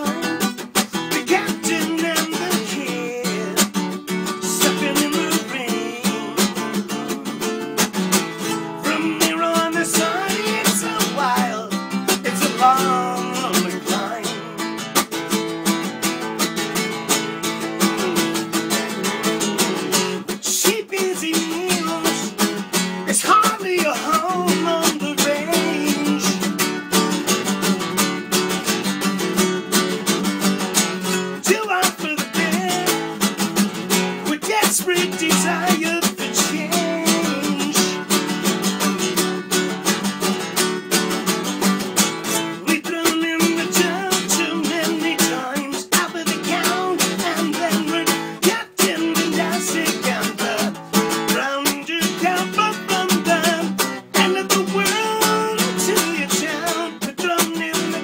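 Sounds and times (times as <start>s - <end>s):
classical guitar strummed rapidly: 0.0s - 58.0s.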